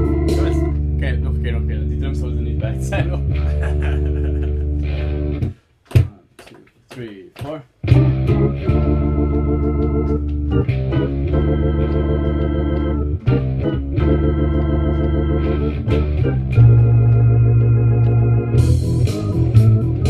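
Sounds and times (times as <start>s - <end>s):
jazz organ chords: 0.0s - 5.5s, 7.8s - 20.0s.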